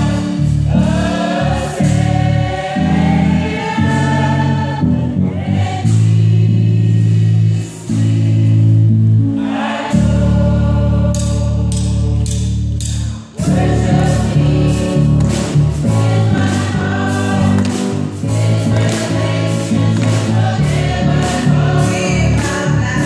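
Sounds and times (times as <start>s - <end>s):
deep held bass notes: 0.0s - 23.0s
youth choir singing gospel: 0.0s - 23.0s.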